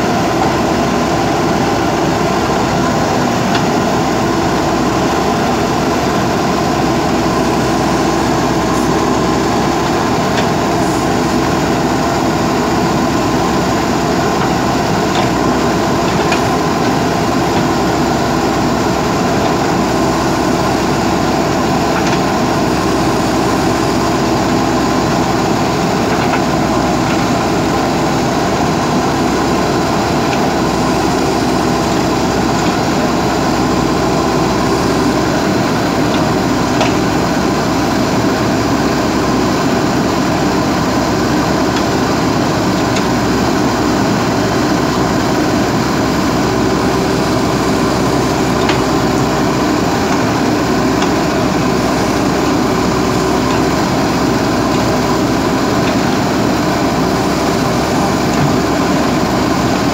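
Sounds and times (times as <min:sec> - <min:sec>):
backhoe digging into earth: 0:00.0 - 0:59.9
diesel engine running: 0:00.0 - 0:59.9.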